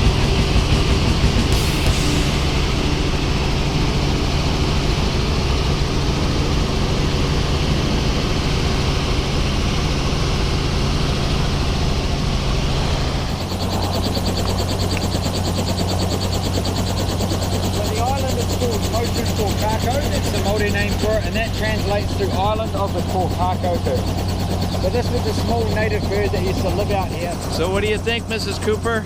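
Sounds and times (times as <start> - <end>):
fast even pulsing: 0.0 - 7.9, 11.8 - 28.9
helicopter engine and rotor: 0.0 - 29.0.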